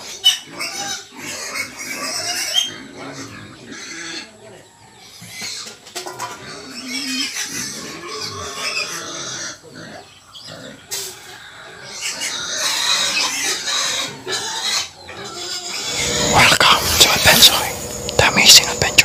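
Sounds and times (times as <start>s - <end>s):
pigs grunting: 0.0s - 19.0s
young pigs squealing: 0.0s - 19.0s.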